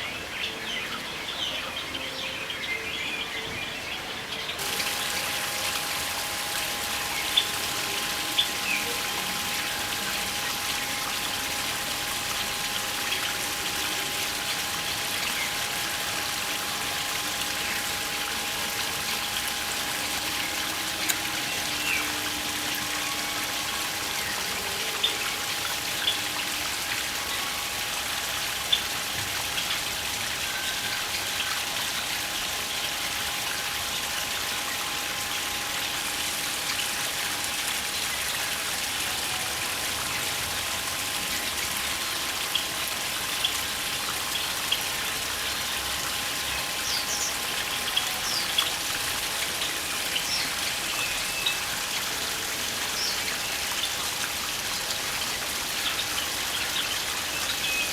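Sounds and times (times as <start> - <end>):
hiss of falling water: 4.6 - 57.9.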